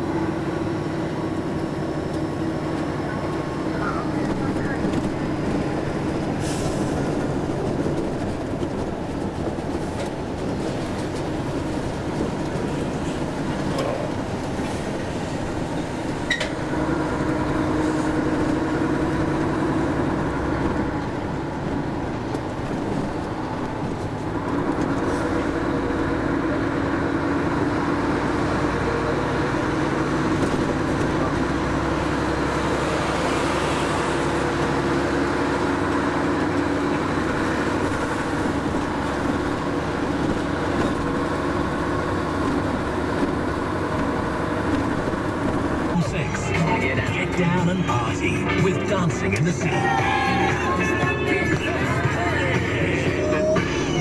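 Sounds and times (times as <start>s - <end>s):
lorry diesel engine running: 0.0s - 54.0s
road and cab noise: 0.0s - 54.0s.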